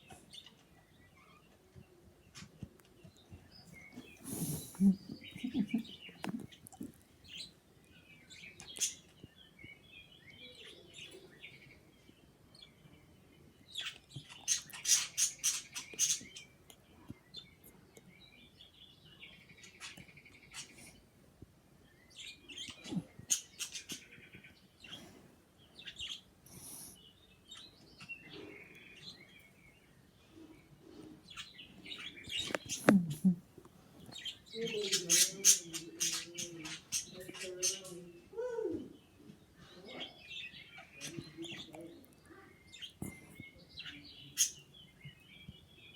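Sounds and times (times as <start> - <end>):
pet birds chirping: 0.0 - 45.9.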